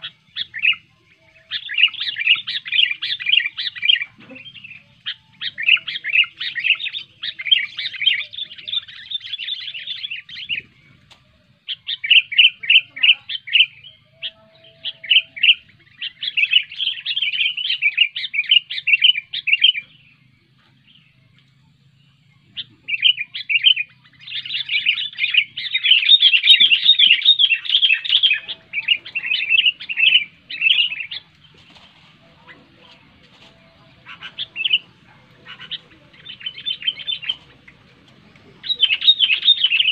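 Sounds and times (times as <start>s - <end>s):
bulbul singing chirping song: 0.0s - 39.9s.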